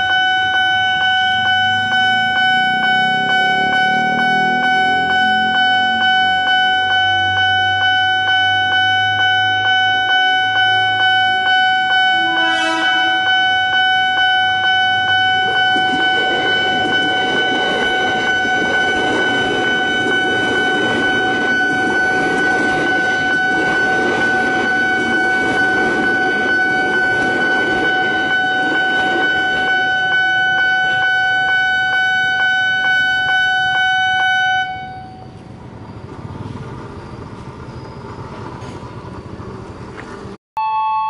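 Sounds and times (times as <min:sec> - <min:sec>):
crossing alarm high tone: 0:00.0 - 0:36.1, 0:40.6 - 0:41.0
train rumble: 0:00.0 - 0:40.4
street noise: 0:00.0 - 0:41.0.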